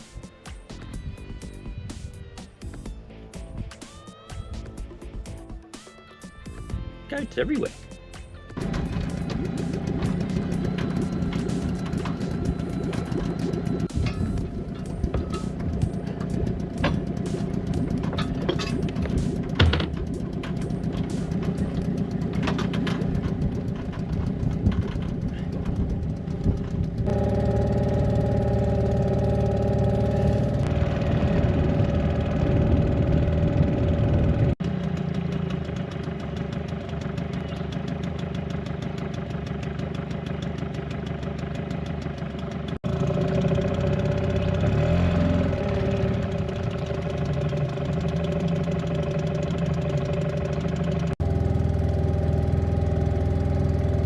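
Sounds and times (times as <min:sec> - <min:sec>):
outboard motor running: 0:06.6 - 0:54.0.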